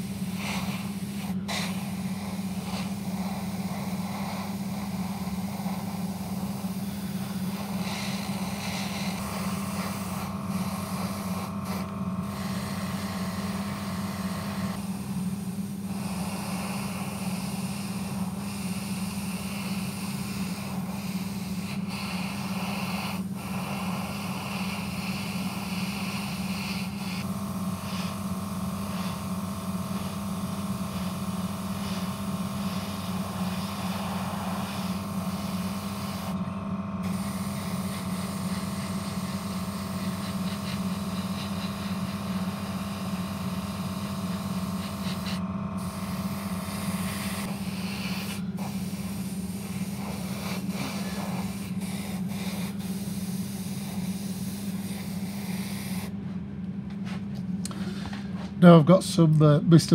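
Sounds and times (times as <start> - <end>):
airbrush air hiss: 0.0 - 56.2
motor hum: 0.0 - 59.9.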